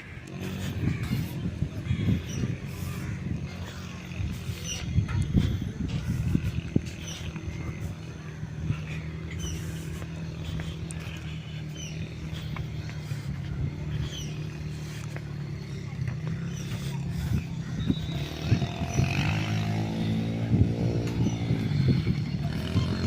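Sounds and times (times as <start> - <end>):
engine hum: 0.0 - 23.0.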